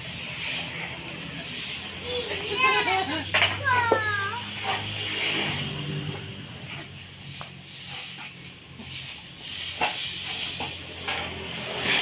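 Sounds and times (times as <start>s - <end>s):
broom sweeping ground: 0.0s - 12.0s.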